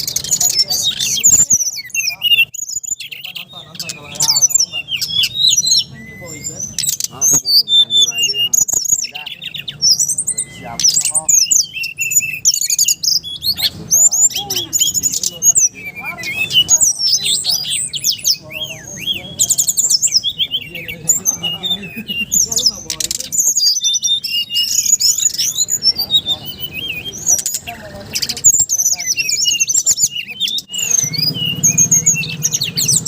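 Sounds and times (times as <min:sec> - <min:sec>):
many birds chirping and singing: 0:00.0 - 0:33.0.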